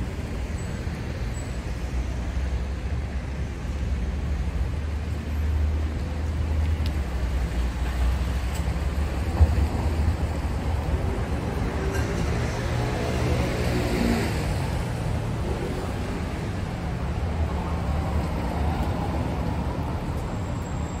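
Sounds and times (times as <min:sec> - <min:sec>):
low rumble of traffic: 0:00.0 - 0:21.0.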